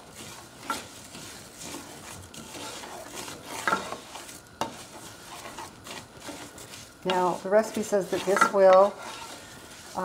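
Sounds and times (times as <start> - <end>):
light sizzle: 0.0 - 10.0
wooden spoon stirring rice: 0.0 - 10.0.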